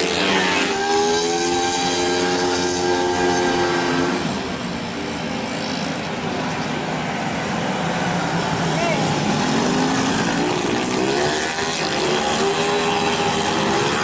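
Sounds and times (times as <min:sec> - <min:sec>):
scooters passing at high revs: 0:00.0 - 0:14.0.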